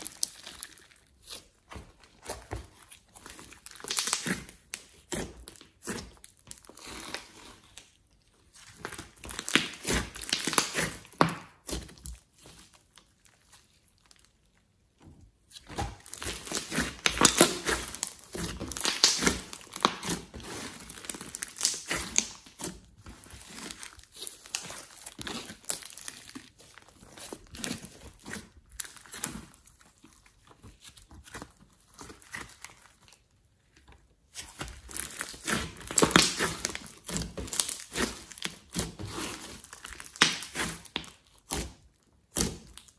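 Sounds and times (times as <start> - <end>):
slime squishing and crackling: 0.0 - 42.9.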